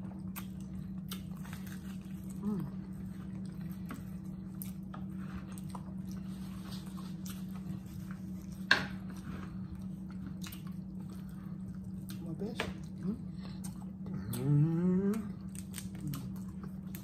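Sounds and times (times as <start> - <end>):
people chewing food: 0.0 - 17.0
steady low hum: 0.0 - 17.0.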